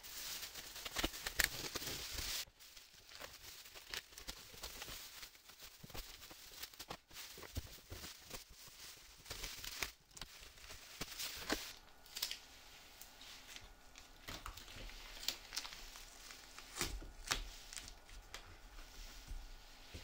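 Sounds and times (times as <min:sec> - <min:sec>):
objects handled by hand: 0:00.0 - 0:20.0.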